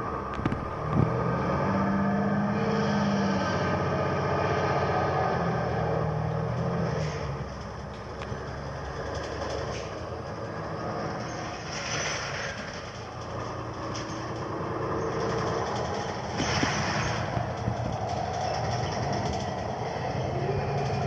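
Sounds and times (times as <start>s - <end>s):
bus engine drone: 0.0s - 21.0s.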